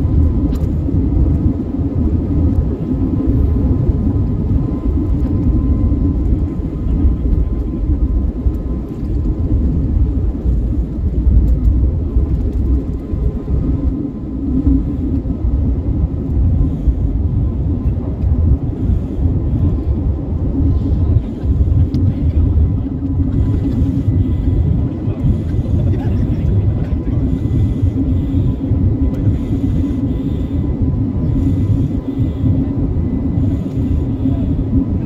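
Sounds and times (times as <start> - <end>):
faint steady tones: 0.0 - 35.0
jet engine rumble: 0.0 - 35.0.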